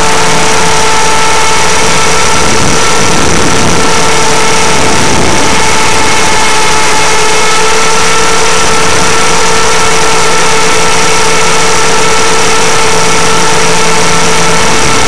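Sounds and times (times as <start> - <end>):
electric motor whine: 0.0 - 15.0
rotors rushing: 0.0 - 15.0.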